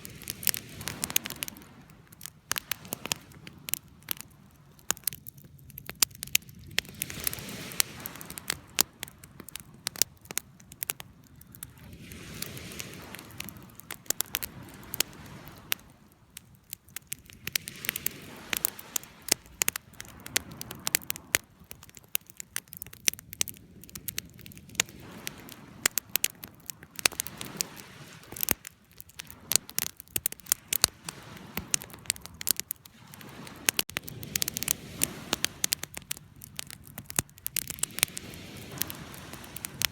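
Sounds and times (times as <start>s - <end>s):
rush of flame: 0.0s - 4.4s, 5.8s - 10.8s, 11.4s - 16.0s, 17.0s - 22.0s, 22.8s - 39.9s
campfire crackling: 0.0s - 39.9s.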